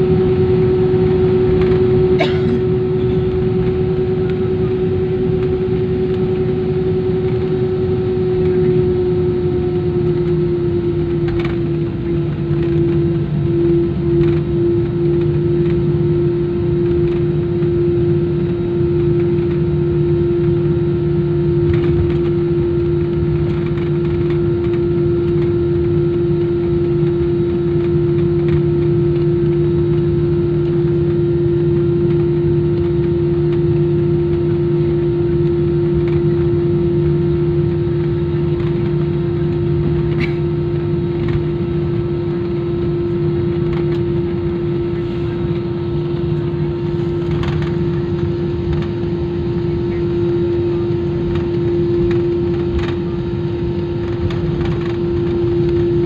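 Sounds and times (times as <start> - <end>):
airliner engine drone: 0.0 - 56.0.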